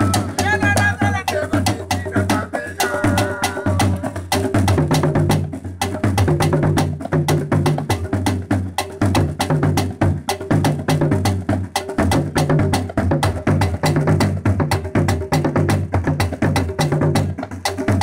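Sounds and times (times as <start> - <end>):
stick-struck drums: 0.0 - 18.0.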